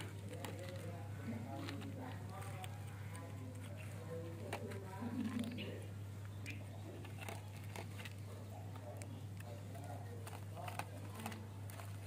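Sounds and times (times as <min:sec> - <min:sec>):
kittens chewing food: 0:00.0 - 0:12.0
steady low hum: 0:00.0 - 0:12.0.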